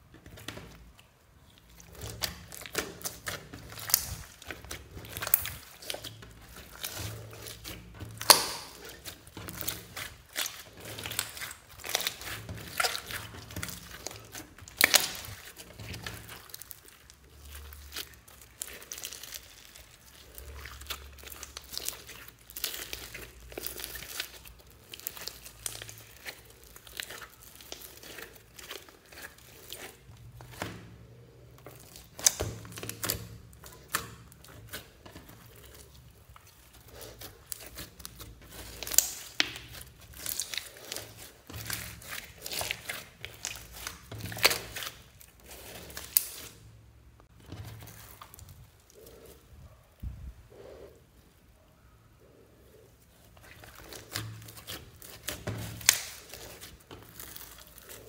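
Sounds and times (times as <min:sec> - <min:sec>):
slime crackling and popping: 0:00.0 - 0:49.4, 0:53.1 - 0:58.0.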